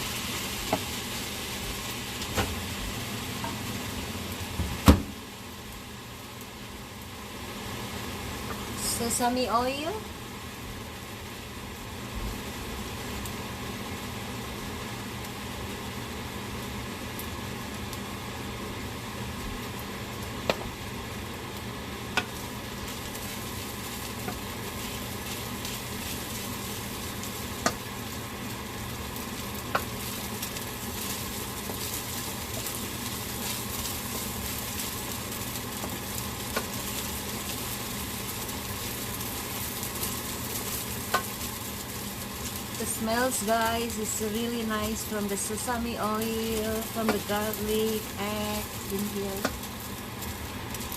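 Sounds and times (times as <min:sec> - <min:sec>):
rice sizzling in a pan: 0:00.0 - 0:50.9.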